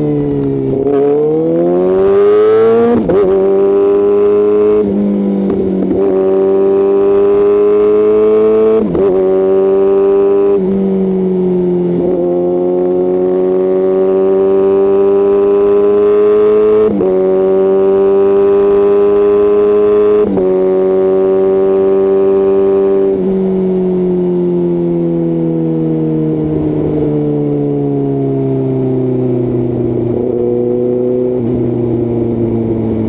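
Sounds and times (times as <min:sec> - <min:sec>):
motorcycle engine accelerating through gears: 0:00.0 - 0:33.0.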